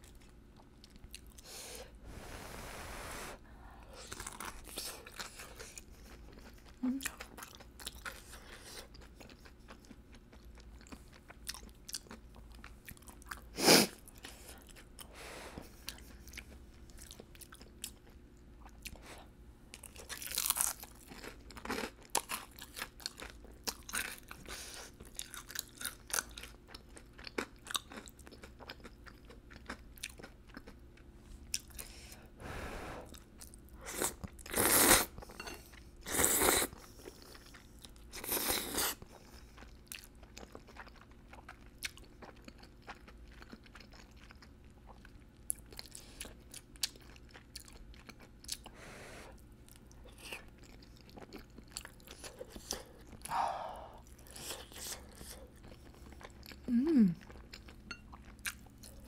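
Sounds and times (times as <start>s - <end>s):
person chewing crunchy food: 0.0s - 1.9s, 3.9s - 59.0s.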